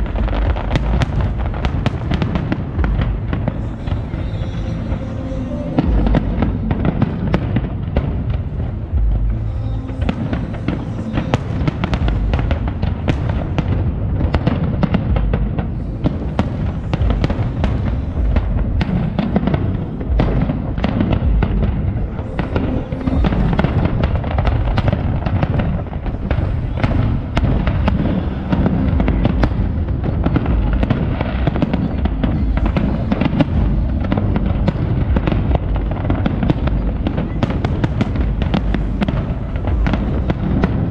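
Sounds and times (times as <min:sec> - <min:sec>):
deep fireworks booms: 0:00.0 - 0:40.9
fireworks bursting and crackling: 0:00.0 - 0:40.9.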